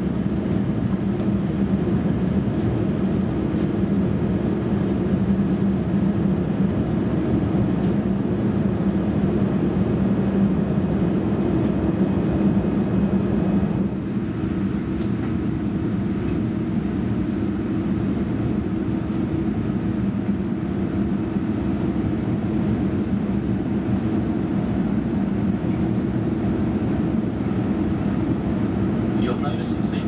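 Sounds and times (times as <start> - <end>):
airplane cabin engine drone: 0.0 - 30.0
steady hum: 0.0 - 30.0.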